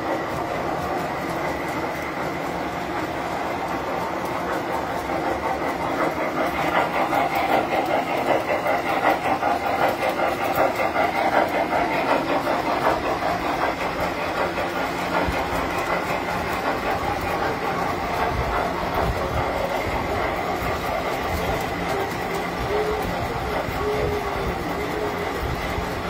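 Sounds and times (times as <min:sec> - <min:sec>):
model trains humming: 0:00.0 - 0:26.0
wheels clattering over rails: 0:00.0 - 0:26.0.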